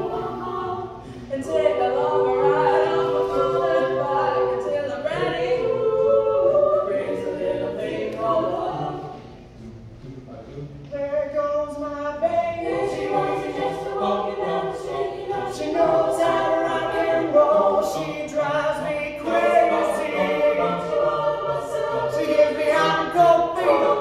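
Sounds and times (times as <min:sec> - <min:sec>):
a cappella group singing: 0:00.0 - 0:24.0.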